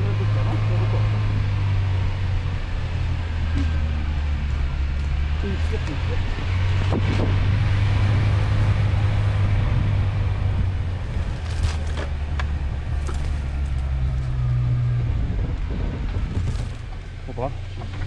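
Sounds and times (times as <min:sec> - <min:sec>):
car engine running at low revs: 0:00.0 - 0:18.0.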